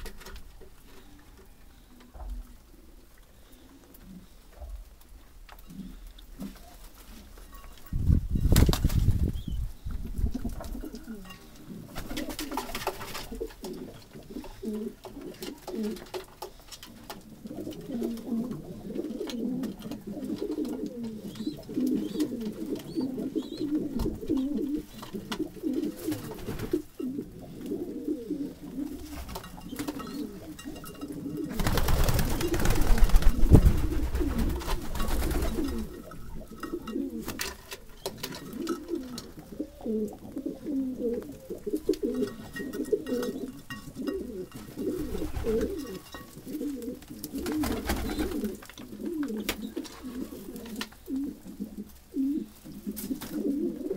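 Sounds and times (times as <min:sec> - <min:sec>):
pigeons cooing: 0:05.6 - 0:07.3, 0:09.2 - 0:53.9.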